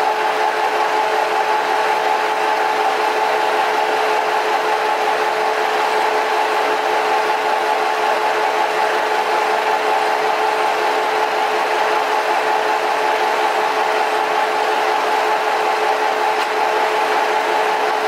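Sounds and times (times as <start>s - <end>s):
metal lathe running: 0.0s - 18.0s.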